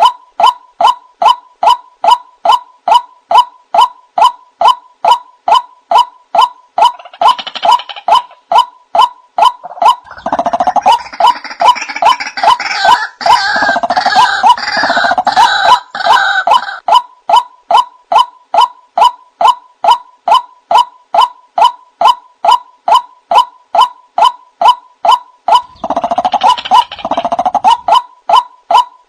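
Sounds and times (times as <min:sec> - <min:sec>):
croaking and chattering calls: 0:00.0 - 0:29.0.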